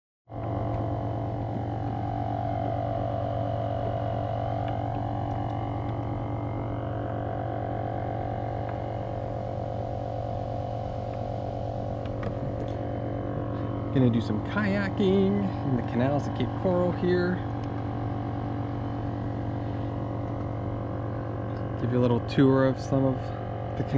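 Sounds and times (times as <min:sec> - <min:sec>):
steady mechanical hum: 0:00.3 - 0:23.9.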